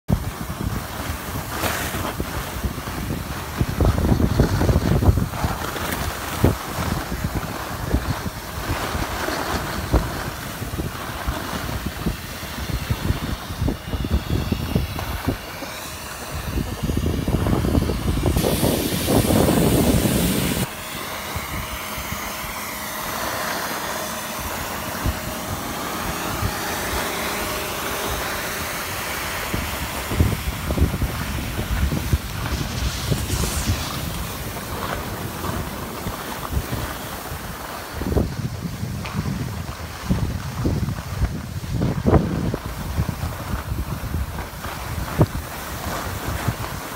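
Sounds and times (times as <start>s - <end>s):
wind noise on microphone: 0.0s - 46.9s
skis scraping on packed snow: 0.1s - 46.9s
snowmaking gun hissing: 0.1s - 46.9s.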